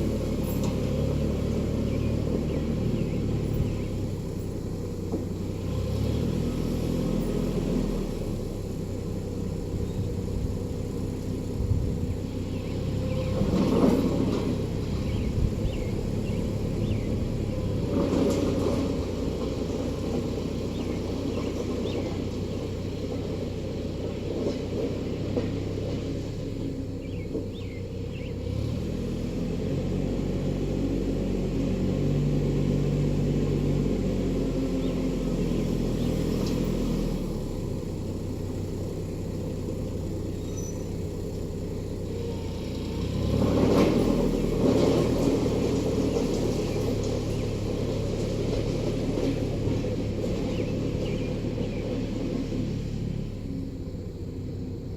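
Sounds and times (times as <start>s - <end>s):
diesel van engine under load: 0.0s - 54.9s.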